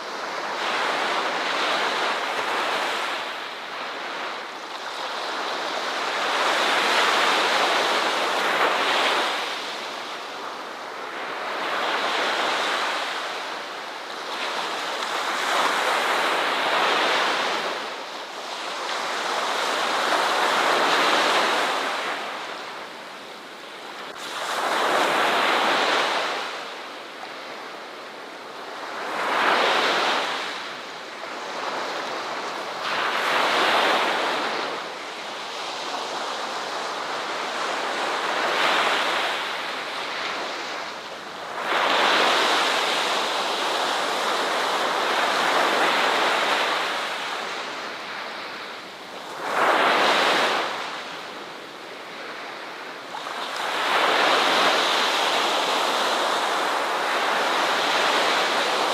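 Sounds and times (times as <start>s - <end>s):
ocean waves breaking on beach: 0.0s - 58.9s.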